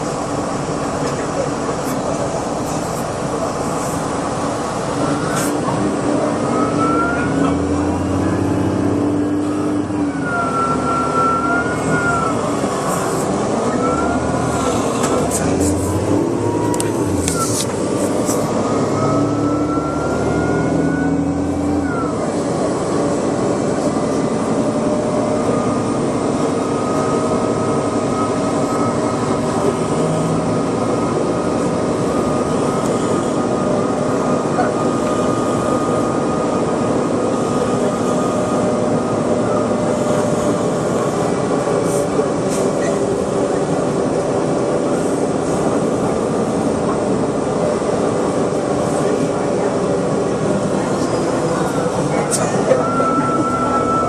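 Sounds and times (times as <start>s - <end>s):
bus engine drone with whine: 0.0s - 54.0s.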